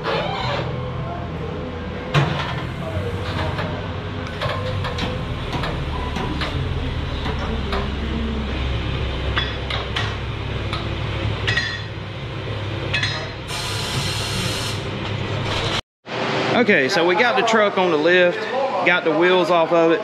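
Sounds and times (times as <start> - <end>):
steady low hum: 0.8 - 16.9.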